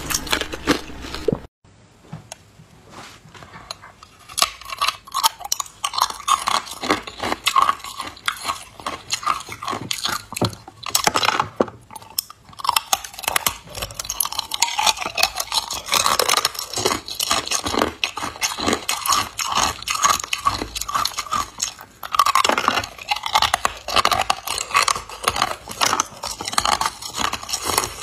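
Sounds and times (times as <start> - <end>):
ice cubes crunched between teeth: 4.2 - 28.0.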